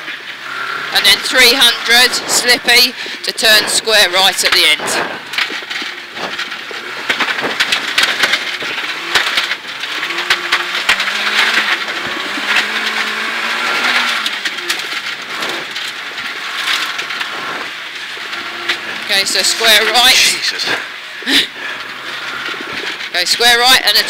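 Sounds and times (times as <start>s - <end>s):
rally car engine revving: 0.0s - 24.0s
tyres on loose gravel: 0.0s - 24.0s.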